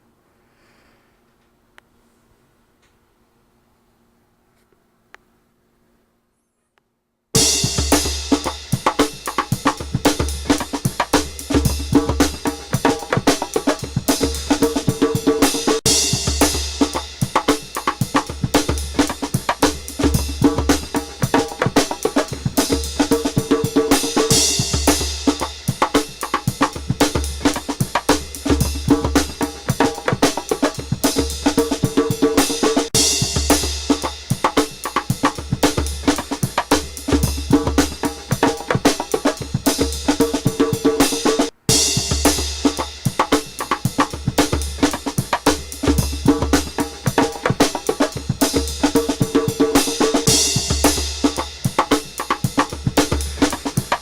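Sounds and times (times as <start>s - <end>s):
music with drum kit beat: 7.4s - 54.0s.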